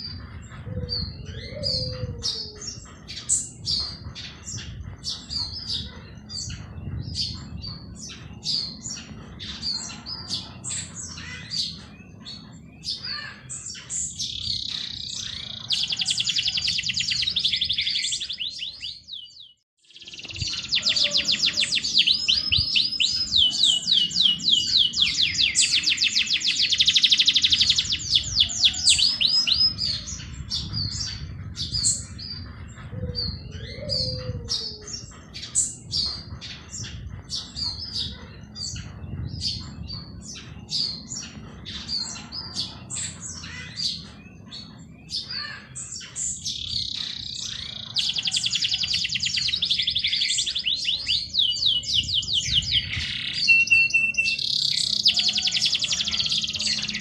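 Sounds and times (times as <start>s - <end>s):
bird chirps and calls: 0.0s - 57.0s
songbirds trilling: 0.0s - 57.0s.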